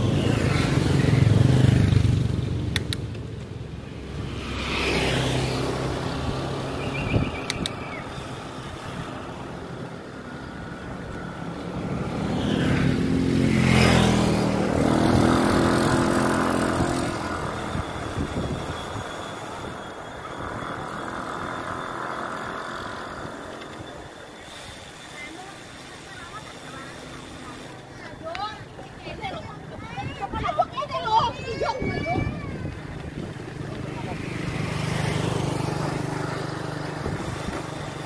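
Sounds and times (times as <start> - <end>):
motor scooters passing: 0.0 - 38.0.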